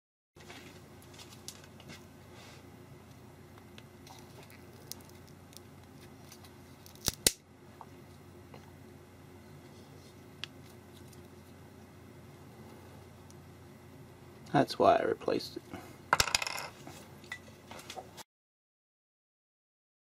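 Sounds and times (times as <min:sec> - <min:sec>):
steady low hum: 0:00.4 - 0:18.2.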